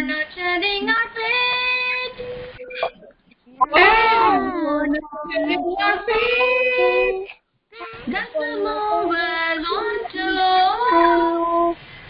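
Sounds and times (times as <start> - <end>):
child and woman singing: 0.0 - 2.3, 3.7 - 11.8.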